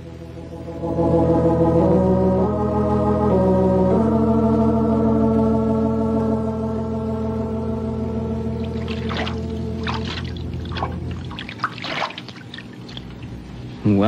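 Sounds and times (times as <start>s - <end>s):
organ chords: 0.0s - 13.9s.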